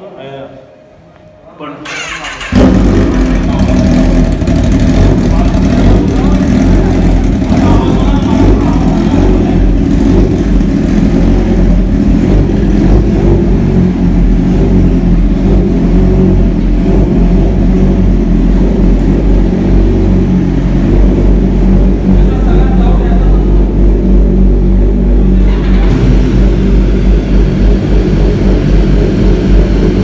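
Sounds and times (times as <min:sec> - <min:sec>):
motorcycle engines idling: 0:01.8 - 0:30.0.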